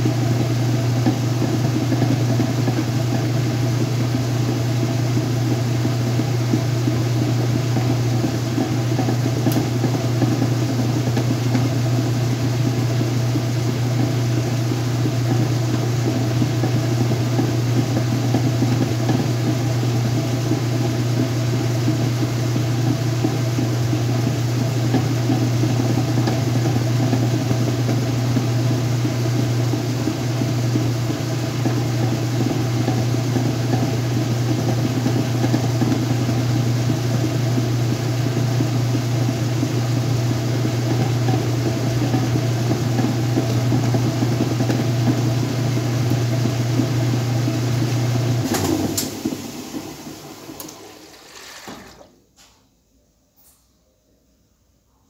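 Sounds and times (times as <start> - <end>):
washing machine spinning: 0.0 - 52.2.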